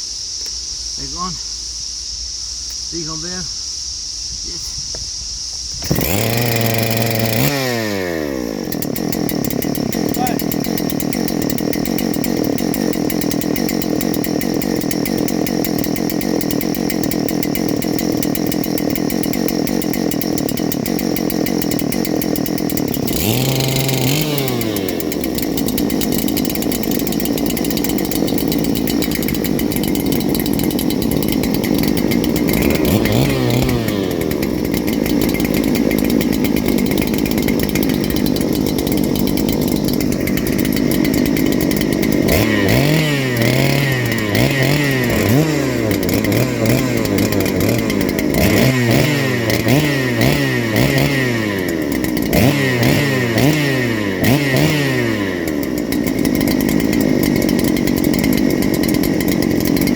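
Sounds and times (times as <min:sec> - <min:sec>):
chainsaw running and revving: 0:05.8 - 0:59.9.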